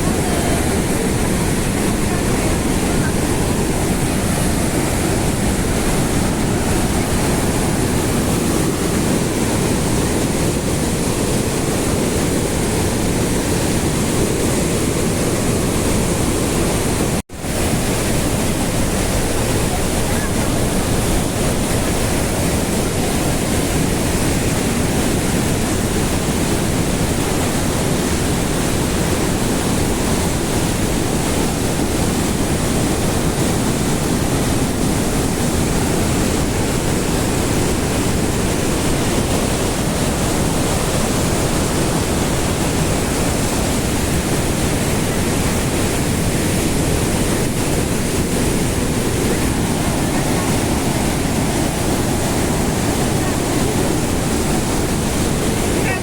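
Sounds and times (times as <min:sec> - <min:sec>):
waterfall roaring: 0:00.0 - 0:56.0
wind on microphone: 0:00.0 - 0:56.0.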